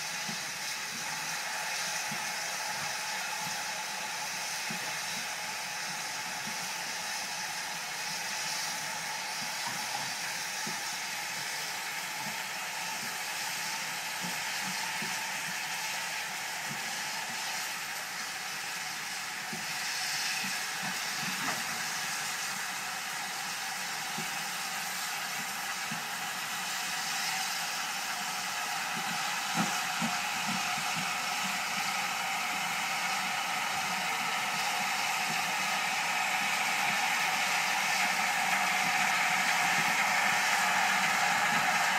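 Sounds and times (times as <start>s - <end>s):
steam hissing from locomotives: 0.0s - 41.9s.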